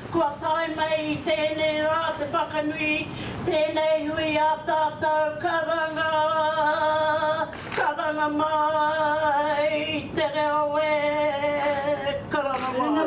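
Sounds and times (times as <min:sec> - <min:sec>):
people singing unaccompanied: 0:00.0 - 0:13.0.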